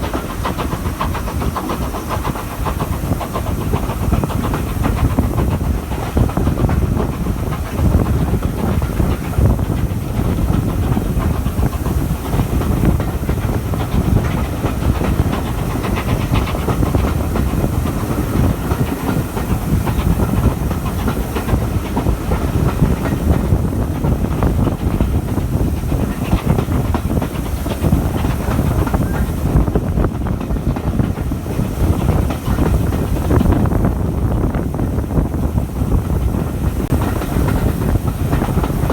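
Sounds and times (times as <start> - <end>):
steam hiss: 0.0 - 38.9
train wheels rumbling on rails: 0.0 - 38.9.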